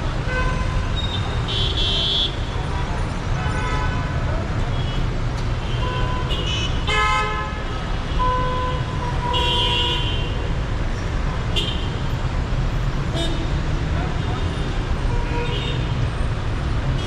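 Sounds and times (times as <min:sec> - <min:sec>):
traffic engine rumble: 0:00.0 - 0:06.8, 0:08.8 - 0:17.0.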